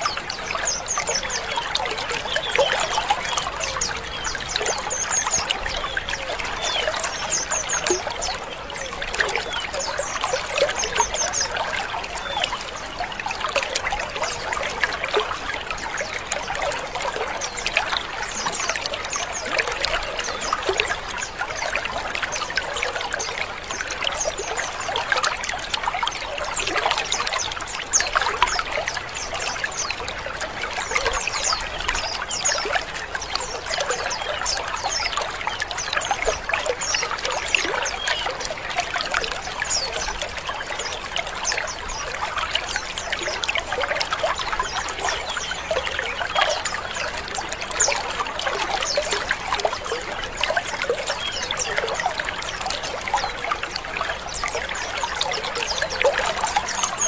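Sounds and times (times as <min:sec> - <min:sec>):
birds chattering and chirping: 0:00.0 - 0:57.0.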